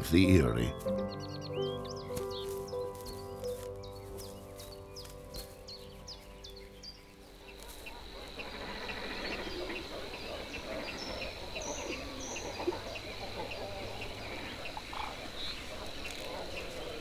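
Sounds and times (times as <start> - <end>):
ticking insect chirp: 2.2 - 17.0
high insect whine: 2.4 - 17.0.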